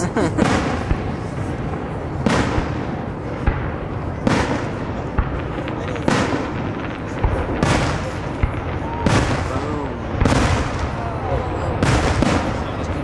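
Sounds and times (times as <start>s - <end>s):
firework shells booming: 0.0s - 13.0s
firework pops and crackles: 0.3s - 13.0s.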